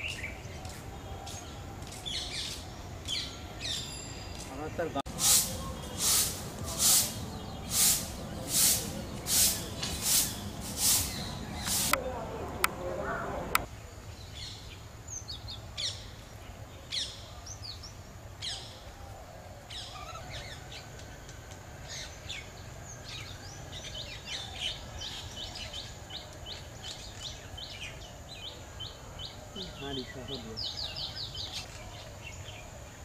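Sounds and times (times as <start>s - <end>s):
small birds chirping: 0.0s - 19.0s, 19.7s - 33.0s.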